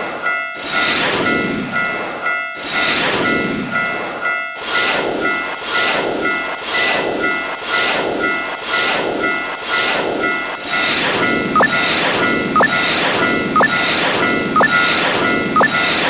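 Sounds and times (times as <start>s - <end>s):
railroad crossing bells ringing: 0.0s - 16.0s
passing train rushing: 0.6s - 16.0s.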